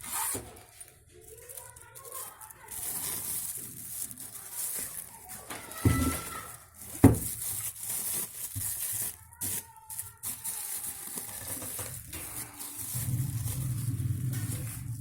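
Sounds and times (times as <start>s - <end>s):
scraping rustling and light clatter: 0.0s - 15.0s.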